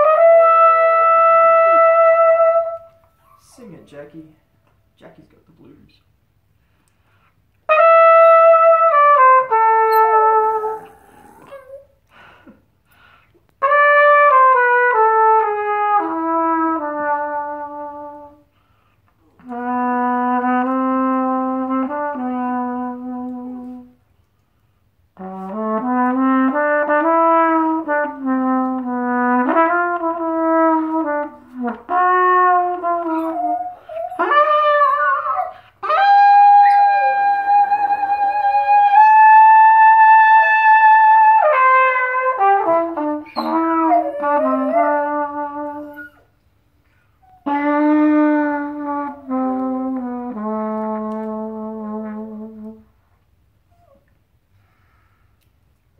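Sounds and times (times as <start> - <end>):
solo trumpet playing blues: 0.0 - 3.6, 7.6 - 11.8, 13.6 - 18.7, 19.4 - 24.1, 25.1 - 53.1.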